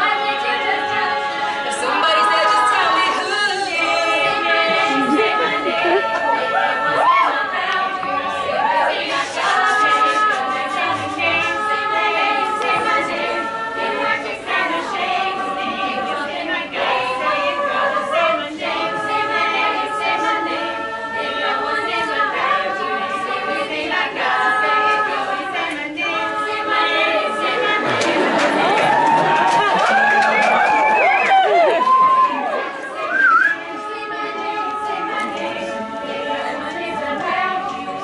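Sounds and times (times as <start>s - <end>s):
women singing in harmony: 0.0s - 38.0s.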